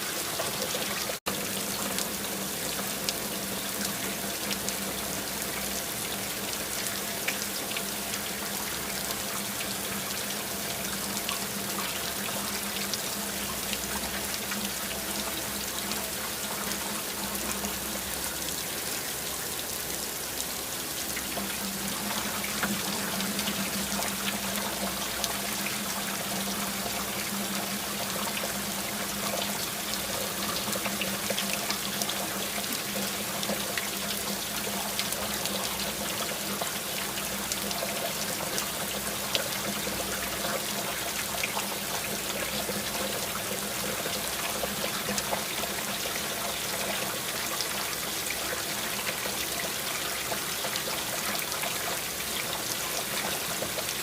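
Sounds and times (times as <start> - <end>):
steady rain falling: 0.0 - 54.0
water trickling and dripping: 0.0 - 54.0.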